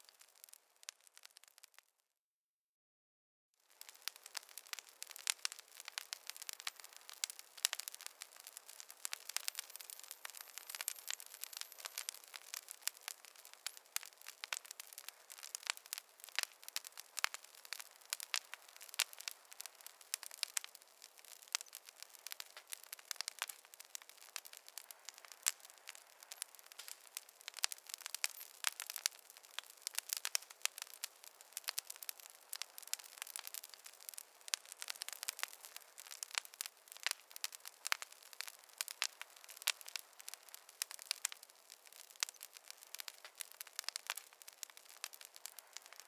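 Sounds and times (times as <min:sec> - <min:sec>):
campfire crackling: 0:00.0 - 0:01.9, 0:03.6 - 0:46.0.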